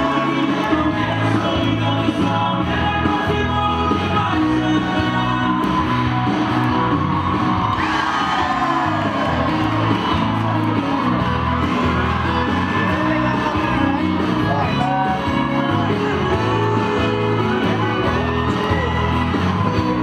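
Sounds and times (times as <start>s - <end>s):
crowd whooping and shouting: 0.0s - 20.0s
music with singing: 0.0s - 20.0s.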